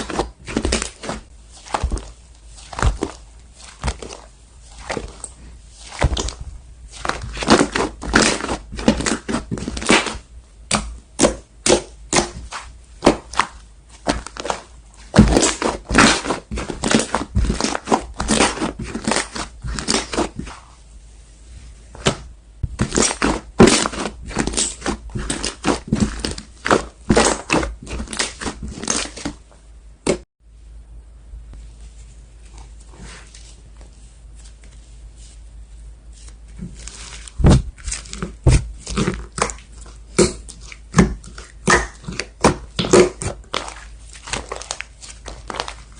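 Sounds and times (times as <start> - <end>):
slime squished by hand: 0.0 - 20.8, 21.9 - 30.2, 36.1 - 45.9.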